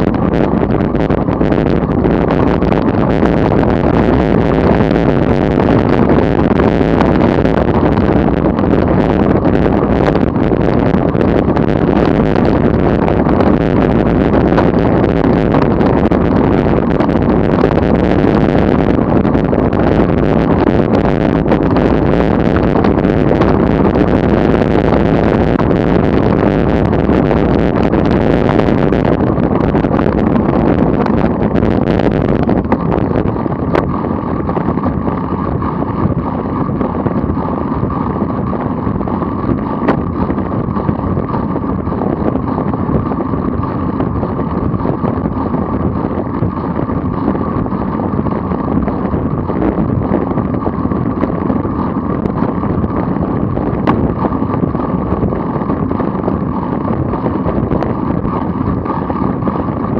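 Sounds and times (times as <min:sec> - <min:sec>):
vehicle road noise: 0:00.0 - 0:59.9
wind buffeting microphone: 0:00.0 - 0:59.9.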